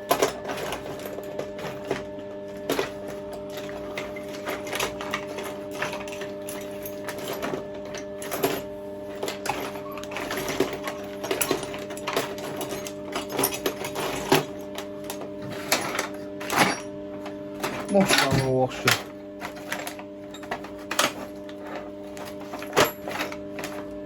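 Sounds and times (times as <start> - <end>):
small metal parts clattering: 0.0 - 16.9, 17.6 - 24.0
mains hum: 0.0 - 24.0.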